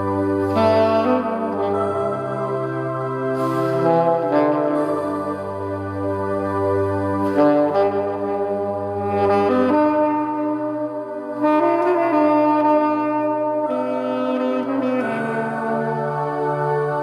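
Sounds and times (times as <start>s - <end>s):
backing accompaniment: 0.0s - 17.0s
saxophone melody: 0.0s - 17.0s.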